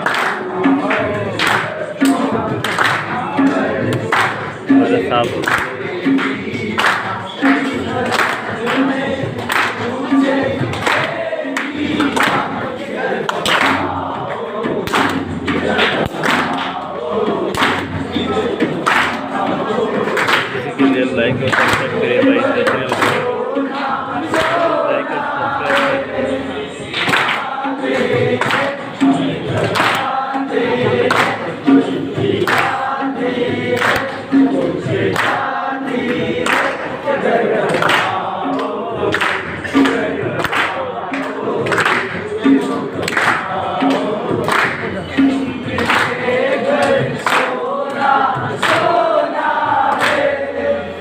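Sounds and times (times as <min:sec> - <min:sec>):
group of voices singing: 0:00.0 - 0:51.0
rhythmic hand or foot thumps: 0:00.0 - 0:51.0.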